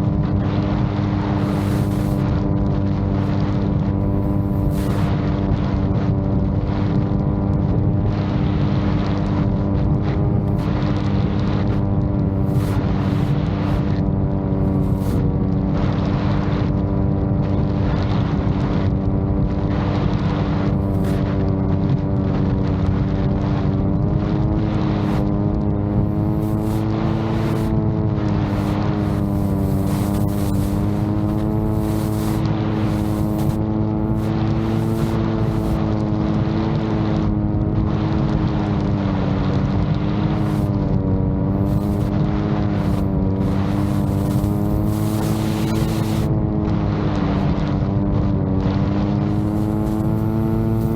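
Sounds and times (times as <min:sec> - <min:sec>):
drone motors and propellers: 0:00.0 - 0:50.9
wind buffeting microphone: 0:00.0 - 0:50.9.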